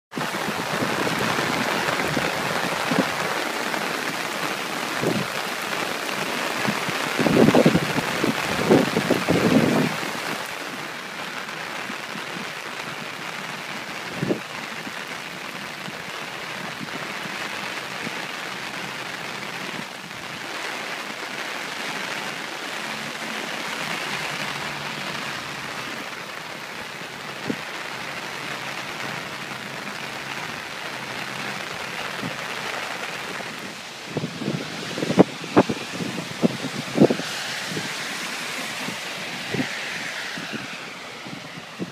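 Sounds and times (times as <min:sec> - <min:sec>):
floodwater rushing in a creek: 0:00.1 - 0:41.9
heavy rain hissing: 0:00.2 - 0:41.9.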